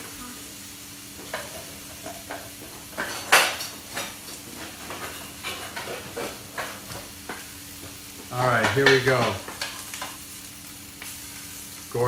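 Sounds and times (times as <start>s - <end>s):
meatballs frying hiss: 0.0s - 12.0s.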